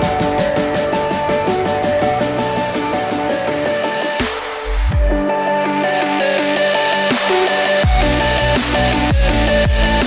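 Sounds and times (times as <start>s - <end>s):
synth melody: 0.0s - 10.0s.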